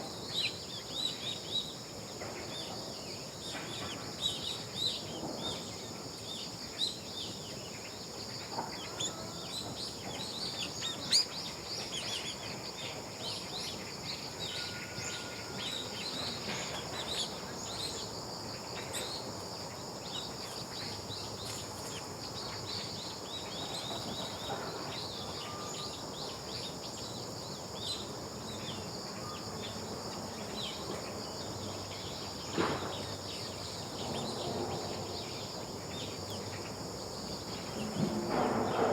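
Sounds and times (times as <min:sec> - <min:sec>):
high-pitched insect hum: 0:00.0 - 0:38.9.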